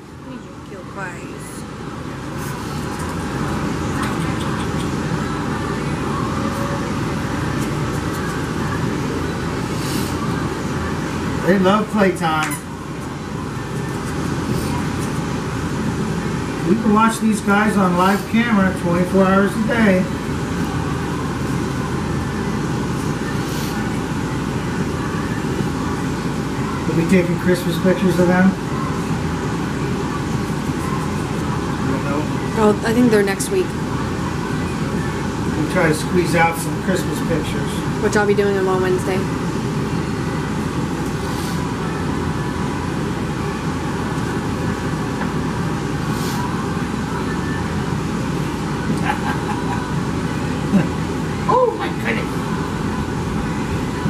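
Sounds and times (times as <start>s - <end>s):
room ventilation rushing: 0.0s - 54.0s.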